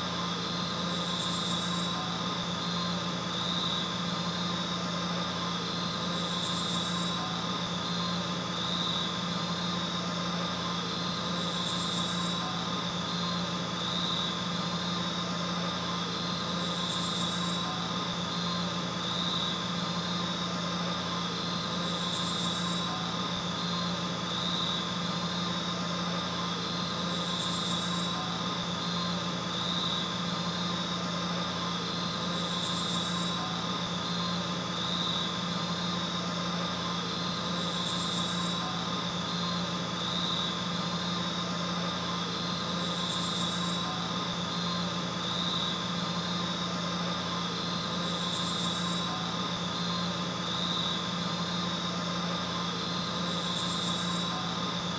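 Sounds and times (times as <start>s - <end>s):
machine hum with high whine: 0.0s - 54.9s.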